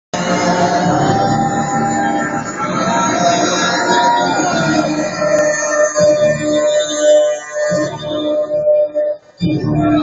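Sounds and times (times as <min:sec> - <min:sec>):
loud music over sound system: 0:00.2 - 0:10.0.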